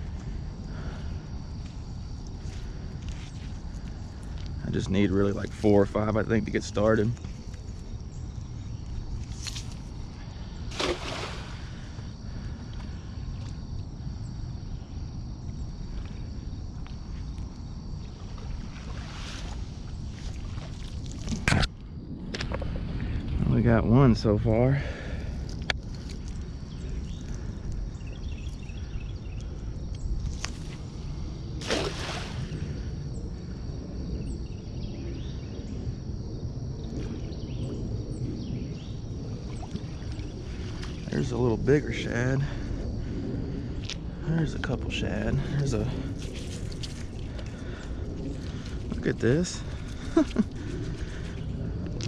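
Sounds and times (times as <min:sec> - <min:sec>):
wind rumble on microphone: 0:00.0 - 0:52.0.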